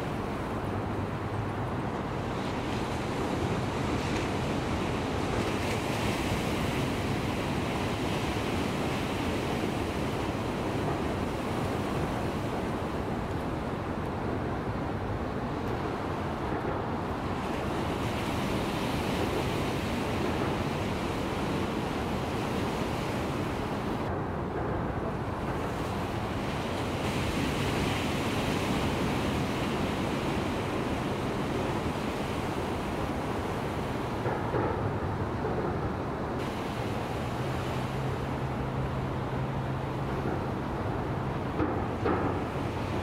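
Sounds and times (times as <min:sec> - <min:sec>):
ocean waves breaking: 0:00.0 - 0:43.0.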